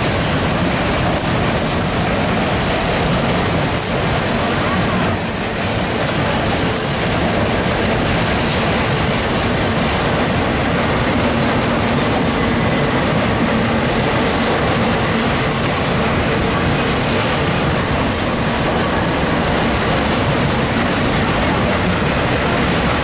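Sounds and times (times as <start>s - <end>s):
freight train wheels on rails: 0.0s - 23.0s.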